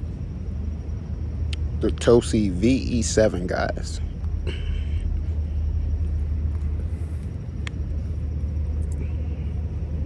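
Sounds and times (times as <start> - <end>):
tyre road noise: 0.0 - 10.0.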